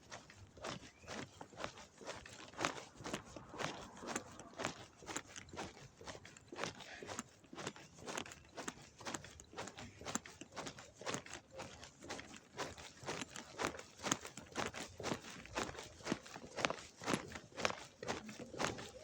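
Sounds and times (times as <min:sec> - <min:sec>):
footsteps walking: 0:00.0 - 0:19.0.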